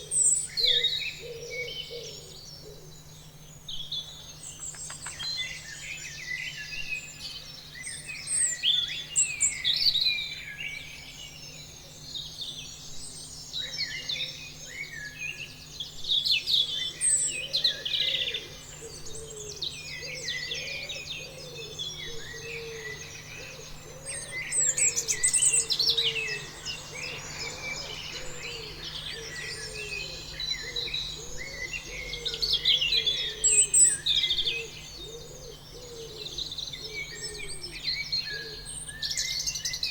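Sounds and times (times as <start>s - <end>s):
faint steady hum: 0.0s - 39.9s
songbirds chirping and singing: 0.0s - 39.9s.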